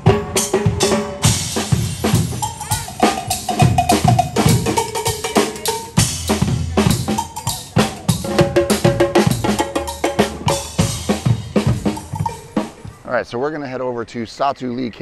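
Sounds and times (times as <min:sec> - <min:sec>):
short pitched notes: 0:00.0 - 0:13.0
percussion band drumming: 0:00.0 - 0:13.1.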